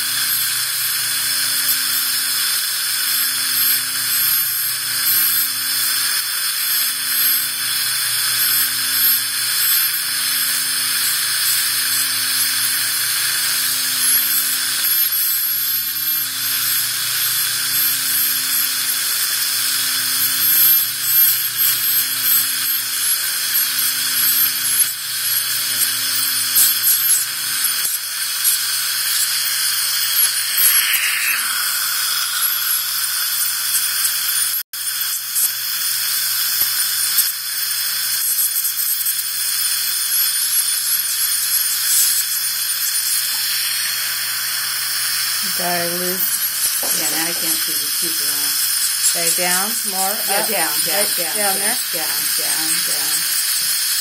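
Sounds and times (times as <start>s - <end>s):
dental scaler high-pitched hiss: 0.0s - 54.0s.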